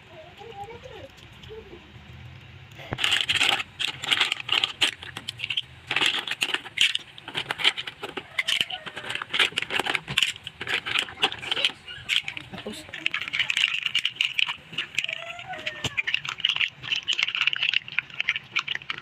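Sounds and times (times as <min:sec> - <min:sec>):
mussel shells clattering in pan: 0:02.7 - 0:19.0.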